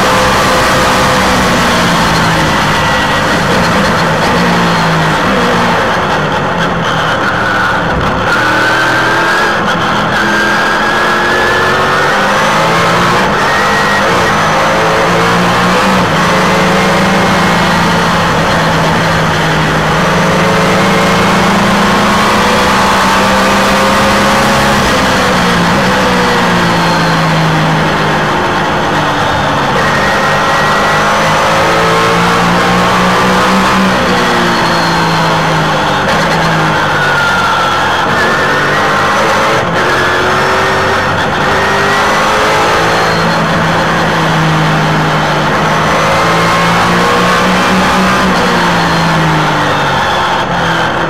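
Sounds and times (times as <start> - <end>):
race car engine at high revs: 0.0 - 51.0.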